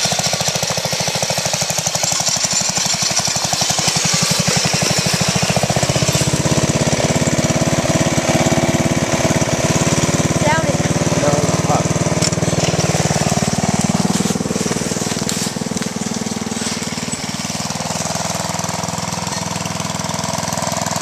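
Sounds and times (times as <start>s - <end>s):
lawn mower engine chugging: 0.0s - 21.0s.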